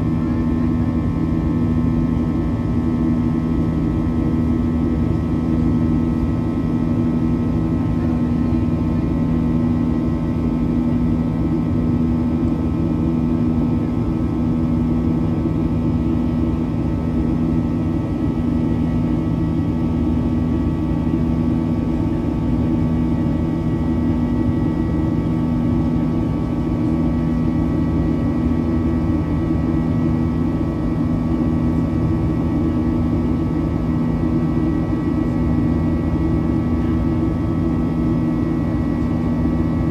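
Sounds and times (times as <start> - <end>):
jet engine buzzing in cabin: 0.0 - 39.9.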